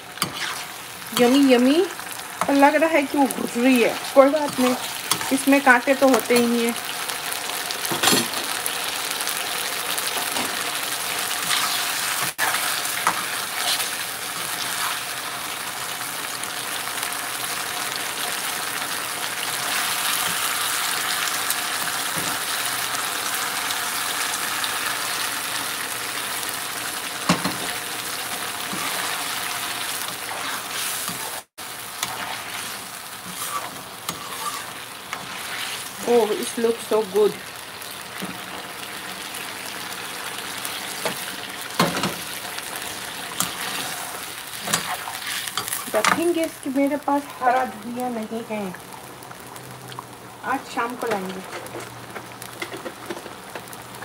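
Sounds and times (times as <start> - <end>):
curry sizzling and bubbling: 0.0 - 54.0.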